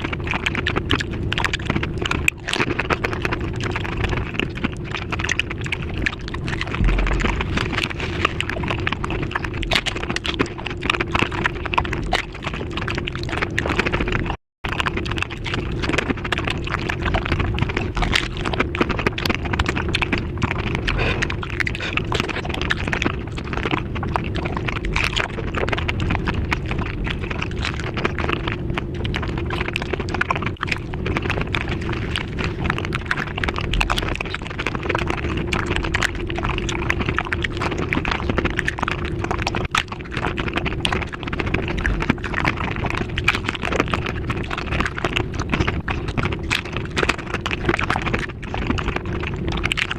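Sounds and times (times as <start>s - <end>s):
crunching and chewing: 0.0s - 49.9s.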